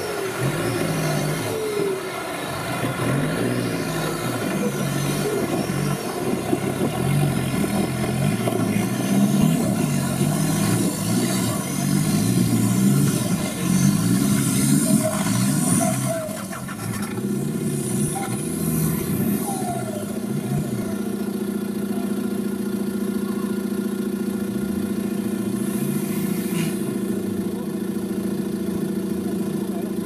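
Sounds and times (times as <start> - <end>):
loud engine revving: 0.0 - 30.0.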